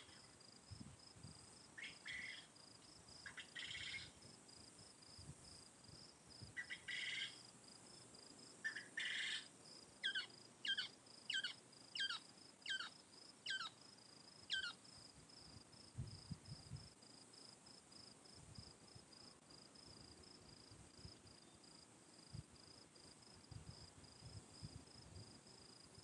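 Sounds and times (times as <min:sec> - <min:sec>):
insect trill: 0:00.0 - 0:26.0.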